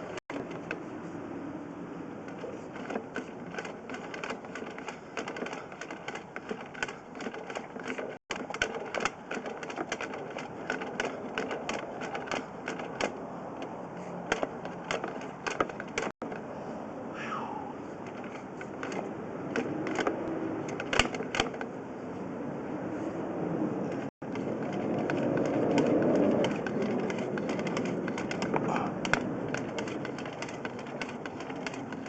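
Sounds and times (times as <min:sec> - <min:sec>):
cable clicking and clattering in pipe: 0:02.2 - 0:16.4, 0:18.0 - 0:21.7, 0:24.0 - 0:32.0.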